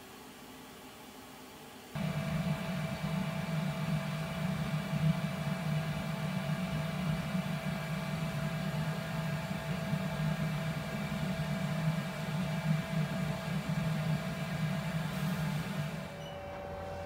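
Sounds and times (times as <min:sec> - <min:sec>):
faint steady whining tones: 0:00.0 - 0:17.0
machine spindle humming: 0:02.0 - 0:17.0.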